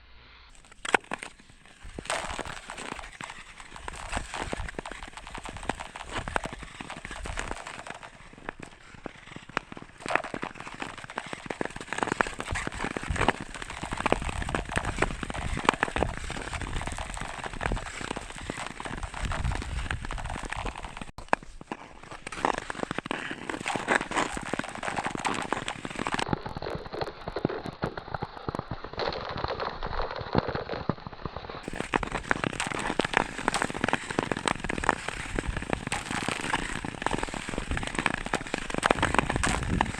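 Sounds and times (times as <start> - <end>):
ice skates crackling on ice: 0.5 - 39.9.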